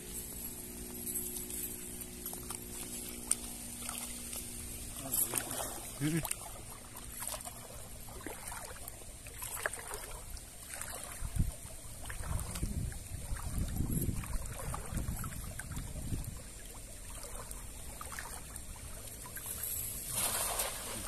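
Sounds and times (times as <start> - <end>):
low hum: 0.0 - 21.0
wet net rustling and splashing: 0.3 - 21.0.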